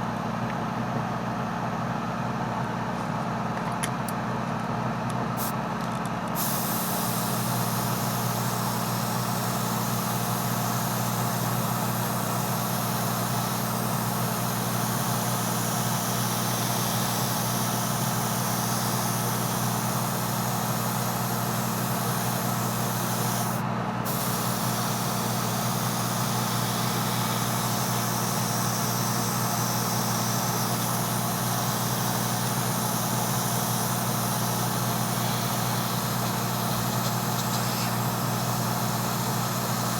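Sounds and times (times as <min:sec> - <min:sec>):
low machine hum: 0:00.0 - 0:39.9
airbrush spraying hiss: 0:06.4 - 0:39.9.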